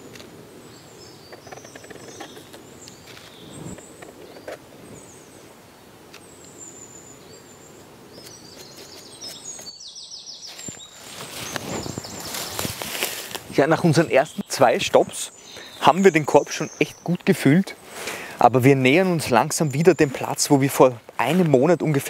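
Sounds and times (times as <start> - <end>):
small birds chirping: 0.0 - 22.0
soft background hiss: 0.0 - 22.0.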